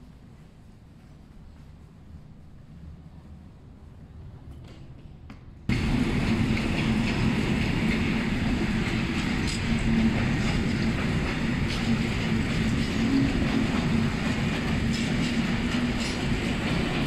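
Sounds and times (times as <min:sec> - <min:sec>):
train wheels rumbling on rail: 0:00.2 - 0:17.0.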